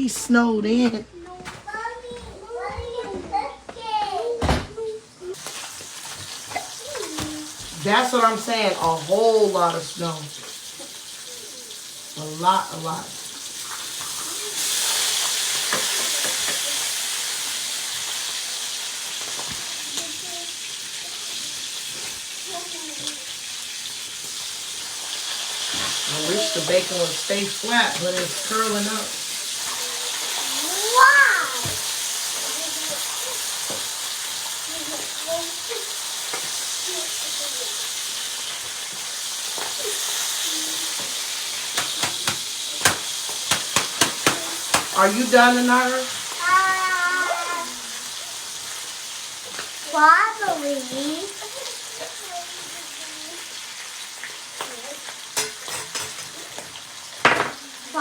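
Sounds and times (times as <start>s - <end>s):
bacon sizzling in a frying pan: 3.7s - 58.0s.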